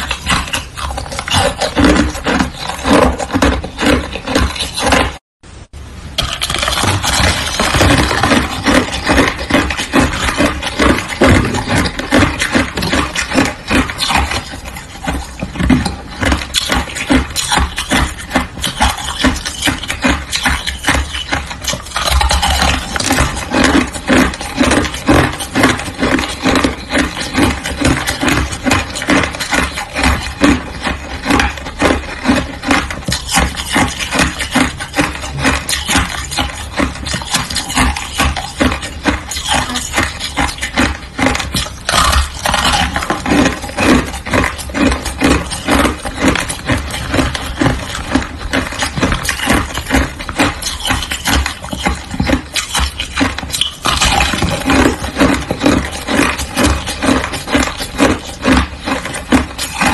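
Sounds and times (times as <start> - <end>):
shaved ice being chewed: 0.0 - 59.9.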